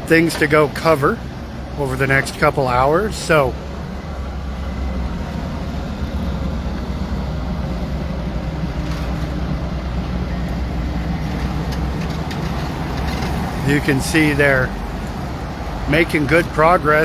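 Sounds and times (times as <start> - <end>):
heavy vehicle engines rumbling: 0.0 - 17.0.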